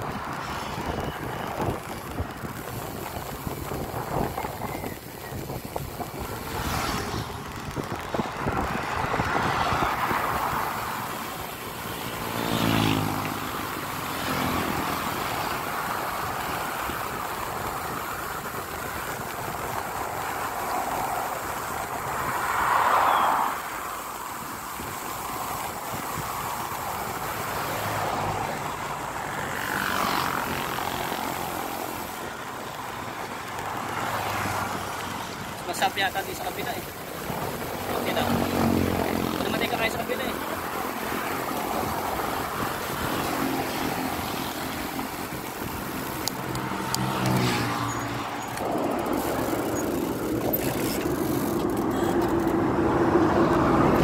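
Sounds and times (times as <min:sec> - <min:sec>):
vehicles passing: 0:00.0 - 0:54.0
wind and road noise: 0:00.0 - 0:54.0.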